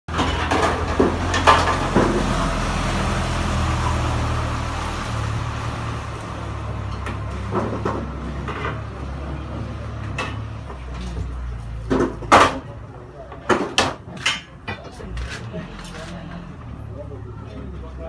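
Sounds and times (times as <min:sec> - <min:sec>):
street traffic noise: 0:00.1 - 0:18.0
vehicle engine rumble: 0:00.1 - 0:18.0.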